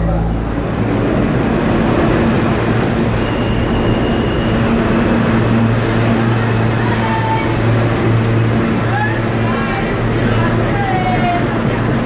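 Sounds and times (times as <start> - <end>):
subway wheels rumbling on rail: 0.0 - 12.0.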